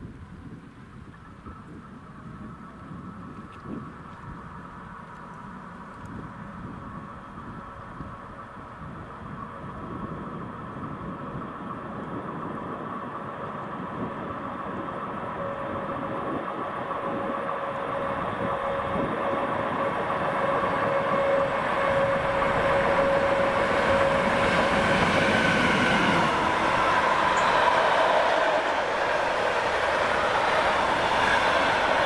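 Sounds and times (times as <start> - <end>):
electric locomotive hum: 0.0 - 32.0
train wheels rolling: 3.2 - 32.0.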